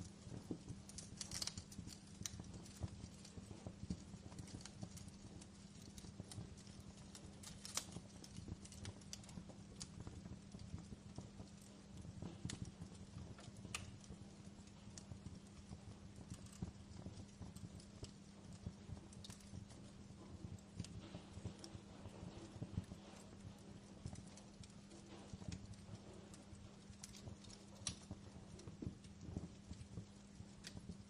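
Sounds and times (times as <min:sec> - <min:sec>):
steady low hum: 0:00.0 - 0:31.0
wood fire crackling: 0:00.0 - 0:31.0.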